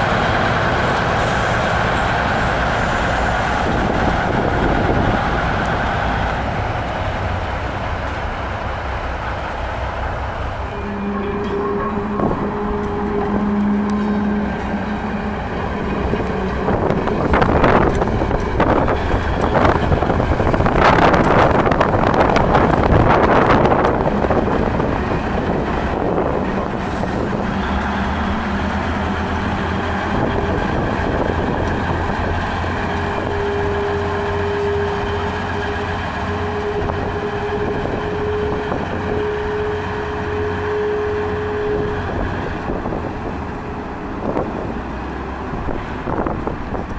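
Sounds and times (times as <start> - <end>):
diesel locomotive engine: 0.0 - 46.9
wheels on rails: 0.0 - 46.9.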